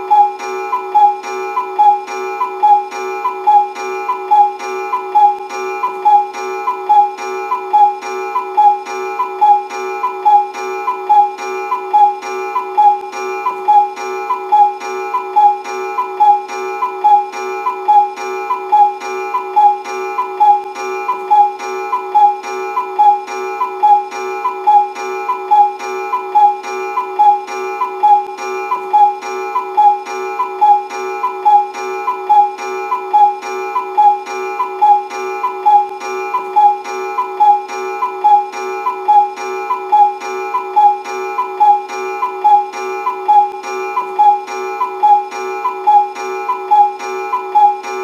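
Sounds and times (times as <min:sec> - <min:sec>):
cuckoo clock call: 0:00.0 - 0:48.0.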